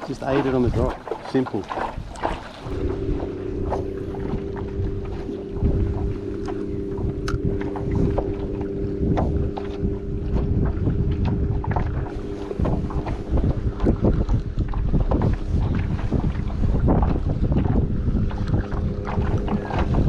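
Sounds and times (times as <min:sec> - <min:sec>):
steady low hum: 0:00.0 - 0:20.0
water slapping against kayak hull: 0:00.0 - 0:20.0
wind buffeting microphone: 0:00.0 - 0:20.0.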